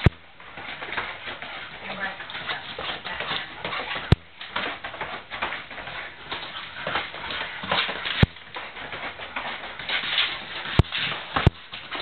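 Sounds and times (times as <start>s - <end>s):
dog claws on hard floor: 0.0s - 12.0s.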